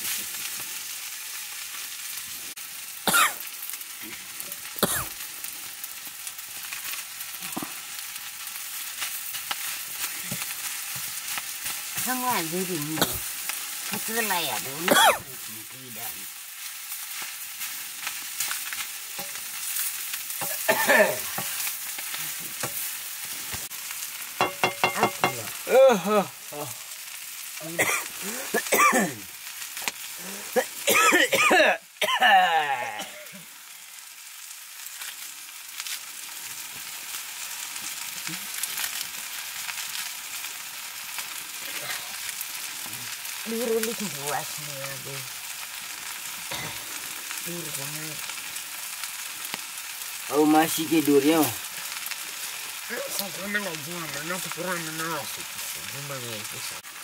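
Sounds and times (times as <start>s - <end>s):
vegetables sizzling in wok: 0.0s - 57.0s.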